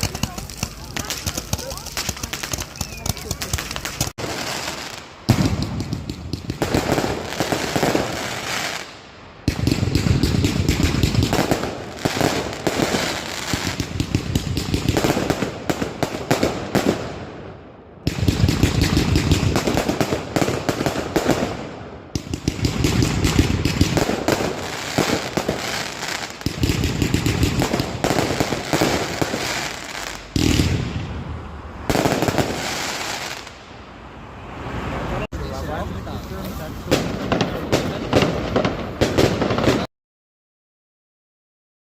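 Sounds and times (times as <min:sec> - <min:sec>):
fireworks cracks and bangs: 0:00.0 - 0:33.7, 0:35.5 - 0:39.9.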